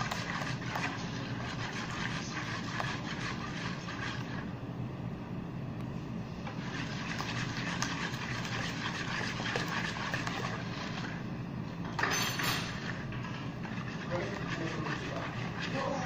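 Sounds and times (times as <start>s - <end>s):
whisk beating eggs in a basin: 0.0s - 4.6s, 6.4s - 16.0s
low background hum: 0.0s - 16.0s.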